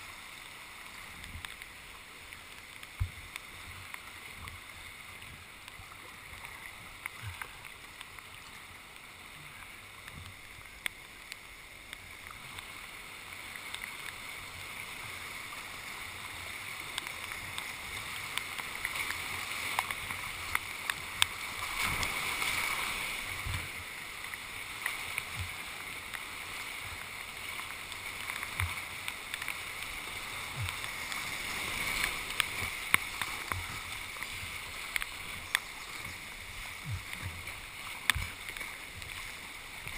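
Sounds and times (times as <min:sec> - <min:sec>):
rushing river whitewater: 0:00.0 - 0:39.9
water splashes: 0:00.0 - 0:39.9
paddle strokes: 0:00.1 - 0:39.9.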